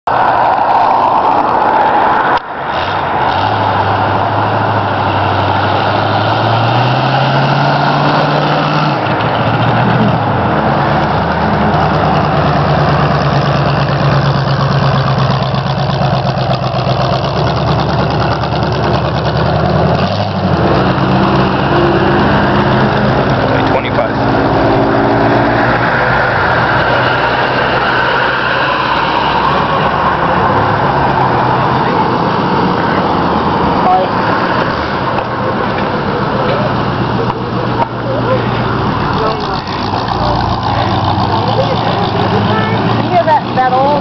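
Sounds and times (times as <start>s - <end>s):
car engine running loud: 0.0s - 44.0s
wind and road noise: 0.0s - 44.0s.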